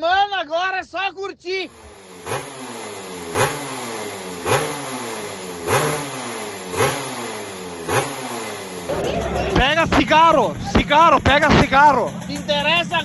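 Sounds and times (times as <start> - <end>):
motorcycle engine revving: 1.7 - 13.0.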